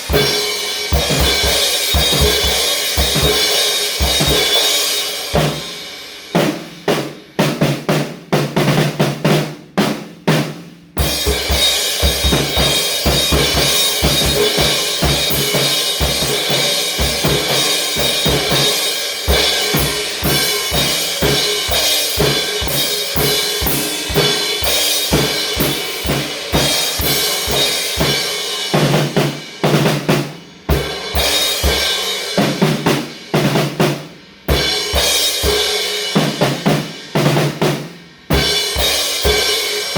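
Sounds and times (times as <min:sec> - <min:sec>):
drum kit playing: 0:00.0 - 0:39.9
music with held notes: 0:00.0 - 0:39.9.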